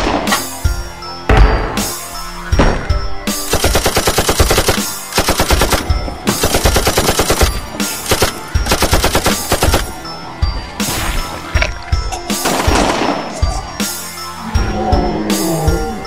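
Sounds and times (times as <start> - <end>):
driving staccato soundtrack music: 0.0 - 16.0.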